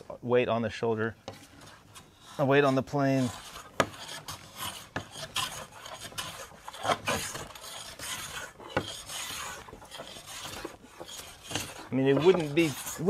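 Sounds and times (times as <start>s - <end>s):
hand plane shaving wood: 1.3s - 13.0s.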